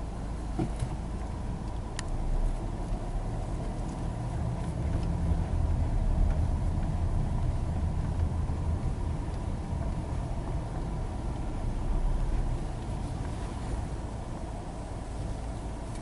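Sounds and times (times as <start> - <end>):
car engine rumble inside cabin: 0.0 - 16.0.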